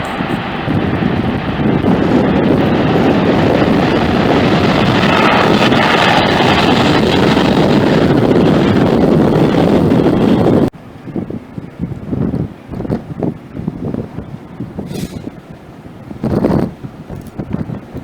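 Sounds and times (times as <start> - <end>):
jet engine roar: 0.0 - 18.0
wind buffeting microphone: 0.0 - 18.0.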